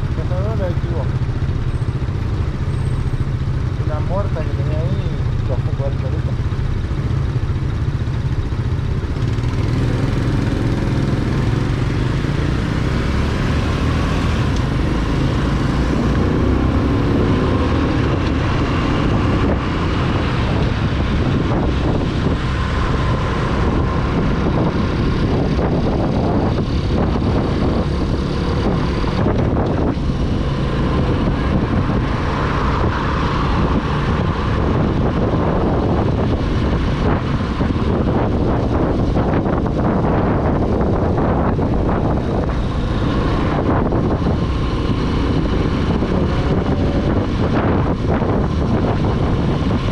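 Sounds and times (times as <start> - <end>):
motorcycle engine running: 0.0 - 49.9
road noise: 0.0 - 49.9
wind noise: 6.8 - 49.9.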